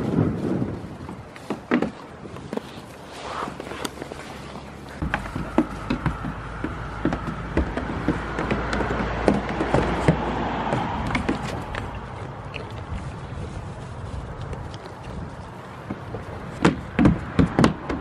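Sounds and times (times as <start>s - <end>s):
hooves clattering on wood: 0.0s - 18.0s.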